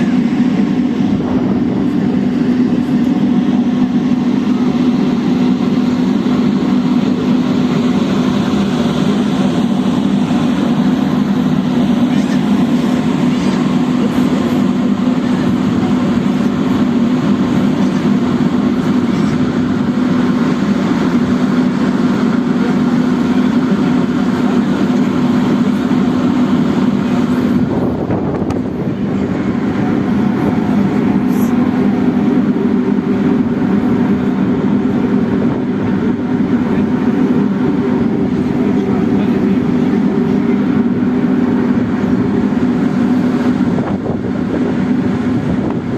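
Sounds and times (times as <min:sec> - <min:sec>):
ferry engine droning: 0:00.0 - 0:45.9.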